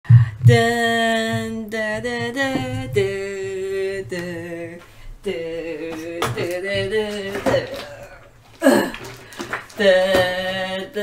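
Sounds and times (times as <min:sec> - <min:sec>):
person singing long notes: 0:00.1 - 0:09.1, 0:09.8 - 0:11.0.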